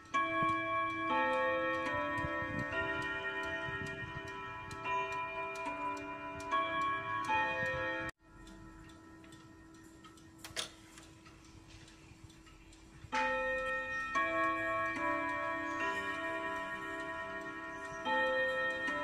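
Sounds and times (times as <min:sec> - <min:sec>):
clock chime melody on gong rods: 0:00.0 - 0:11.8, 0:13.1 - 0:19.0
clock click: 0:00.0 - 0:19.0
wall clock ticking: 0:00.0 - 0:19.0.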